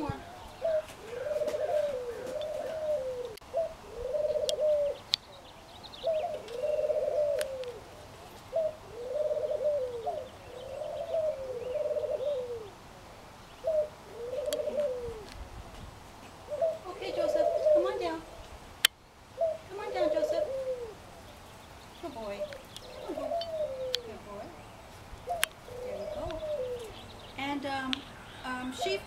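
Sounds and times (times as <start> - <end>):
dove cooing: 0.0 - 12.8, 13.6 - 15.3, 16.3 - 18.4, 19.4 - 29.0.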